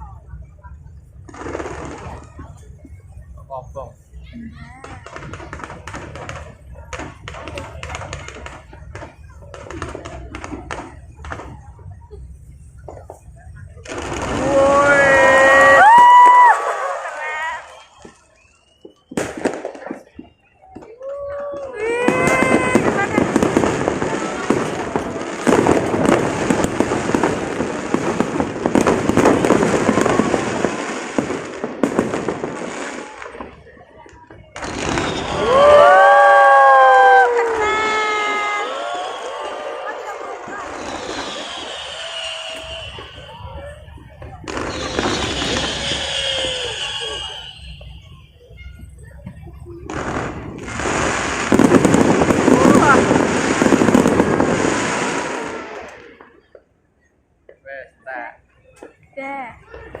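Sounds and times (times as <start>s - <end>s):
fireworks crackling and popping: 0.0s - 60.0s.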